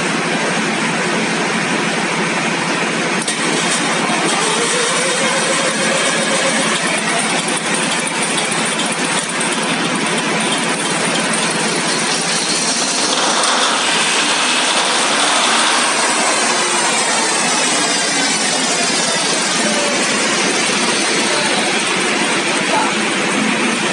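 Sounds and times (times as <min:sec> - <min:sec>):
engine mechanical clatter: 0:00.0 - 0:23.9.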